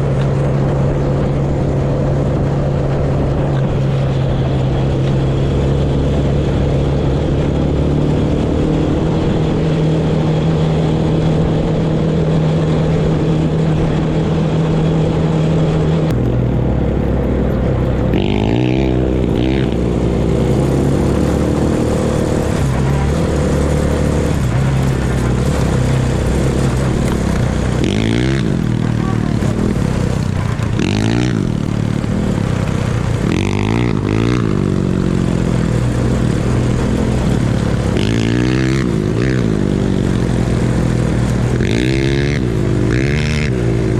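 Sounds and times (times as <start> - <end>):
off-road vehicle engine running: 0.0 - 43.9.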